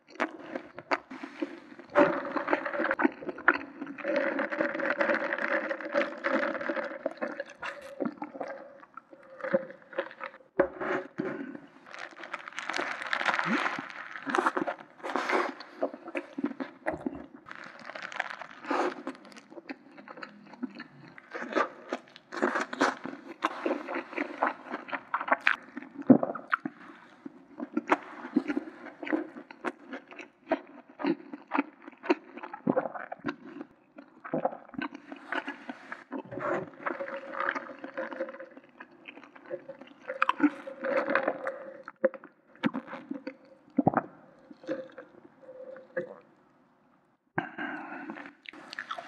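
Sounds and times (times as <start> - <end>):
chewing a burger: 0.0 - 10.6, 11.6 - 46.2, 47.5 - 49.0.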